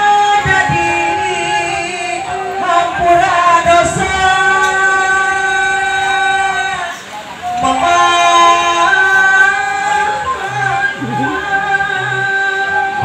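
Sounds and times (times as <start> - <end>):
solo voice singing long notes: 0.0 - 13.0.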